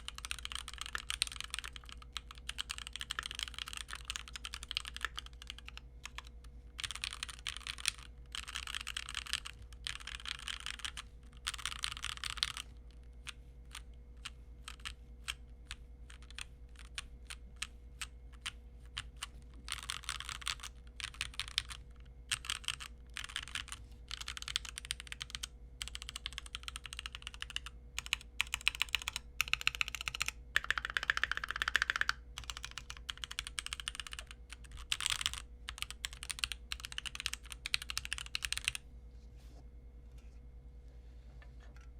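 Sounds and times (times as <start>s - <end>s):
mechanical keyboard typing: 0.0s - 12.7s, 13.7s - 38.8s.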